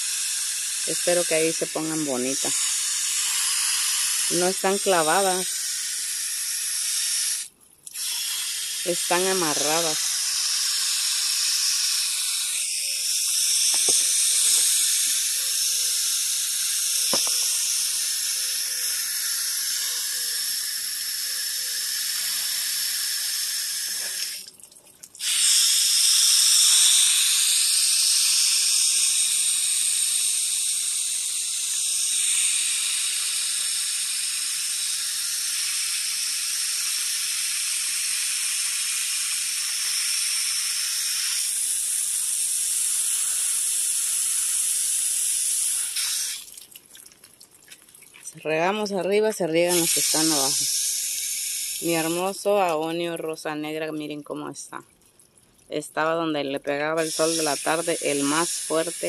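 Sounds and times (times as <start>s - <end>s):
hose spray nozzle hissing: 0.0s - 24.5s, 25.2s - 46.6s, 48.2s - 53.3s, 56.9s - 59.0s.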